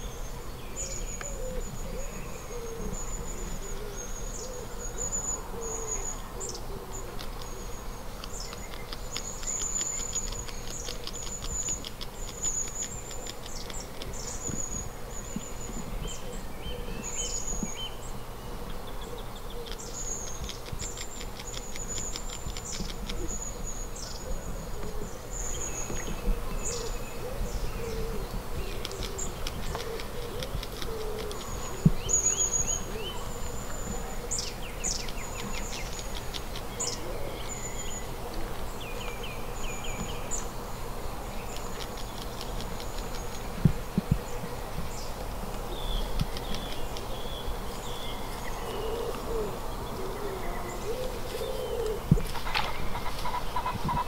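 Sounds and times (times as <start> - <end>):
birds singing high trills: 0.0 - 54.0
low bird notes: 8.5 - 54.0.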